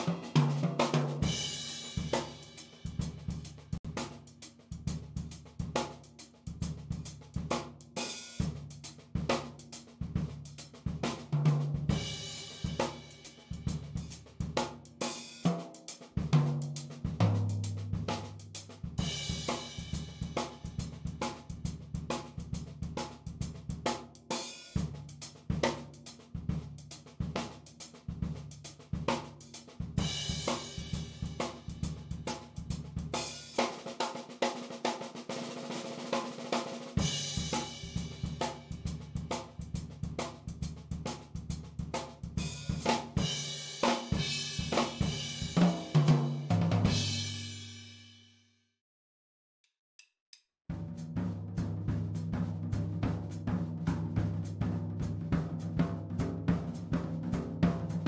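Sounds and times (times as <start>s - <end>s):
drum kit playing a groove: 0.0s - 47.8s, 50.7s - 58.0s.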